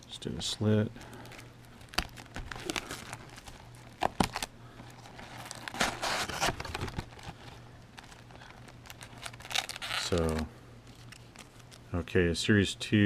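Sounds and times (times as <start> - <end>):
plastic film crinkling and tearing: 0.9 - 11.9.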